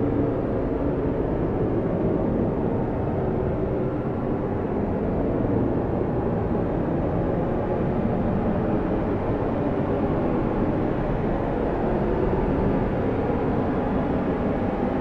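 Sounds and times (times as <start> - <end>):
strong blizzard wind: 0.0 - 15.0.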